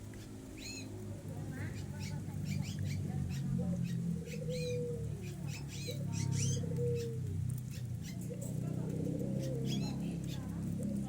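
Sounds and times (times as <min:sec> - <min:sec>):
doves cooing: 0:00.0 - 0:11.0
small birds chirping: 0:00.0 - 0:11.0.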